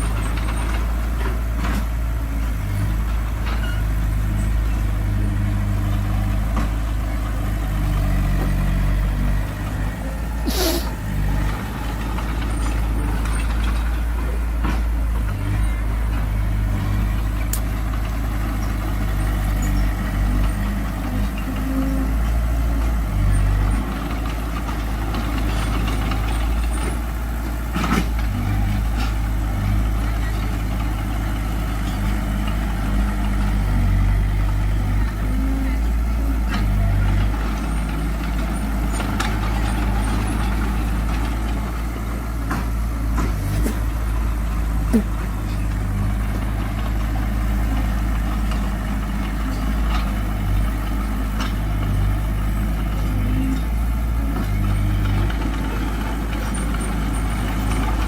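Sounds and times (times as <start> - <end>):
diesel machinery engine rumble: 0.0 - 58.0.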